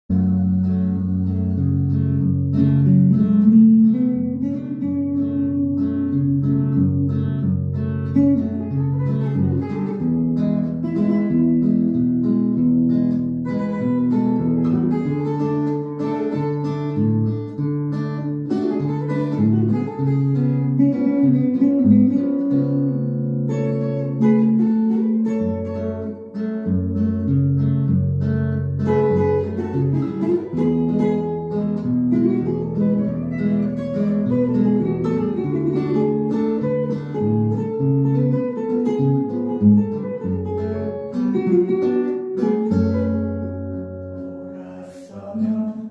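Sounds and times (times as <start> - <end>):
acoustic guitar melody: 0.0 - 45.9.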